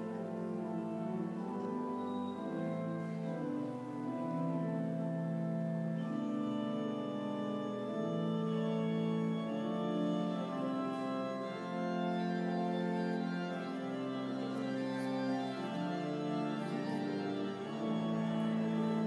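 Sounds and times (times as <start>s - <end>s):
organ playing slow chords: 0.0s - 19.0s.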